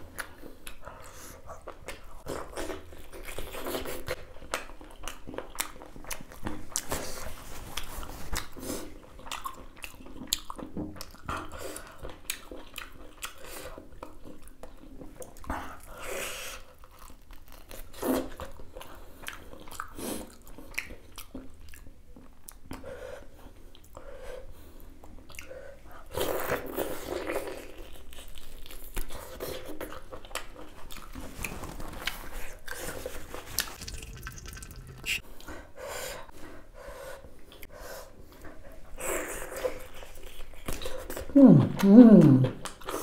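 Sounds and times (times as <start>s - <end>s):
person chewing: 0.0s - 15.8s, 16.5s - 22.8s, 25.0s - 35.5s, 38.9s - 43.0s.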